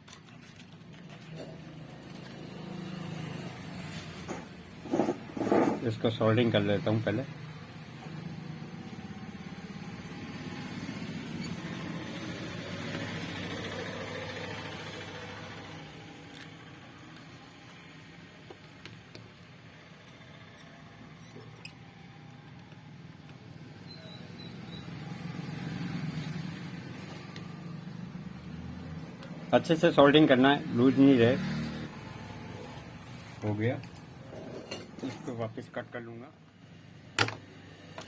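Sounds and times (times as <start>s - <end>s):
road traffic rumble: 0.7s - 38.0s.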